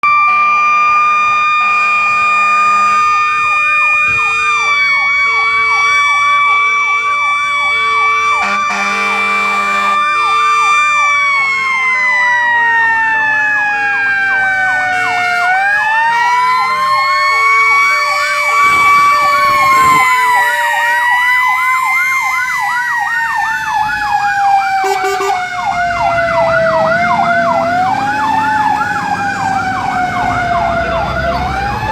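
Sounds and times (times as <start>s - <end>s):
electronic siren yelp: 0.0s - 31.9s
low pulsing siren tone: 0.0s - 31.9s
wailing siren: 0.0s - 31.9s.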